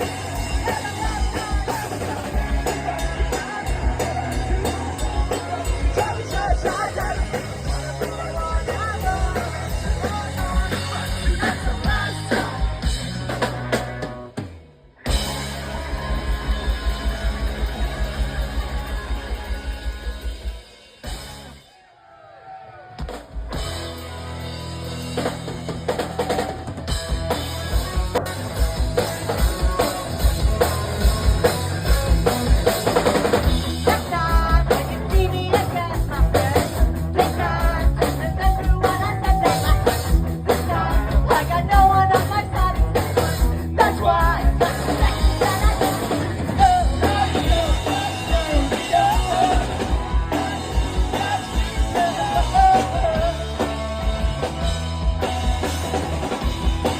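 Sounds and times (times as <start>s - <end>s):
drum kit beat: 0.0s - 21.6s, 23.0s - 56.9s
live rock band playing: 0.0s - 21.8s, 22.9s - 56.9s.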